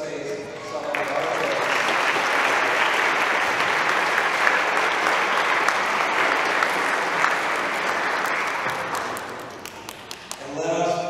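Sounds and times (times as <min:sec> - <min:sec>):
congregation applauding: 0:00.5 - 0:10.7.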